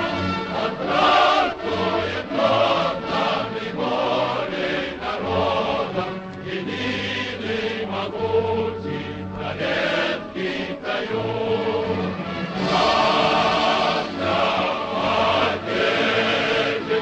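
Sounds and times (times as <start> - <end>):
choir singing chant-like song: 0.0 - 17.0
instrumental accompaniment: 0.0 - 17.0.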